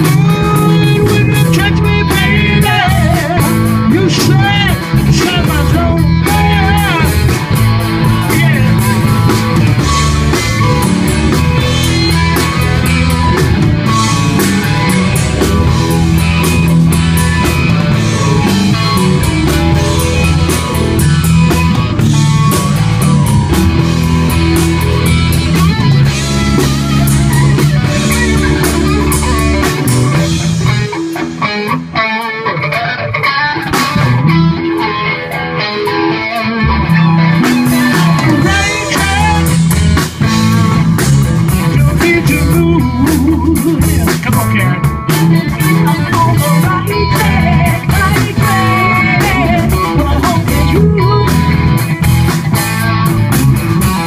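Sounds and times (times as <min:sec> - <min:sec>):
bass and drums: 0:00.0 - 0:54.0
electric guitars: 0:00.0 - 0:54.0.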